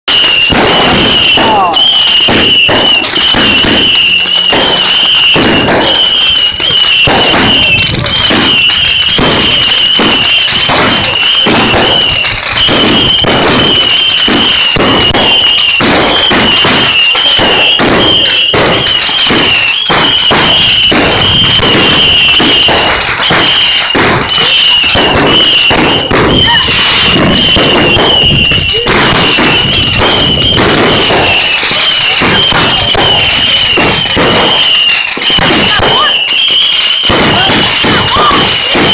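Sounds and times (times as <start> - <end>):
fireworks popping and banging: 0.0 - 38.9
high warbling firework whistle: 0.1 - 38.9.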